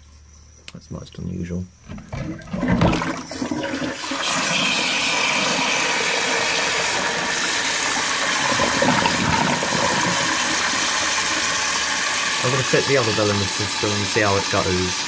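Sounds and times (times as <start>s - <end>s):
water jet splashing into tank: 1.9s - 15.0s.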